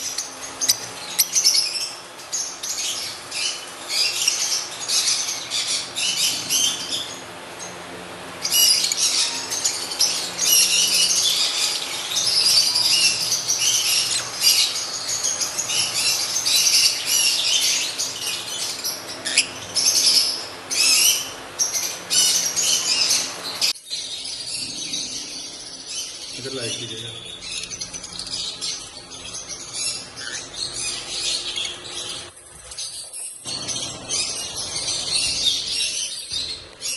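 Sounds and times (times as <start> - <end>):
lovebirds chattering: 0.0 - 36.9.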